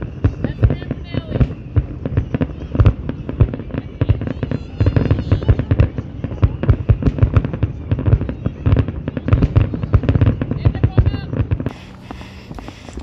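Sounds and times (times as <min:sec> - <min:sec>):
fireworks bangs and booms: 0:00.0 - 0:13.0.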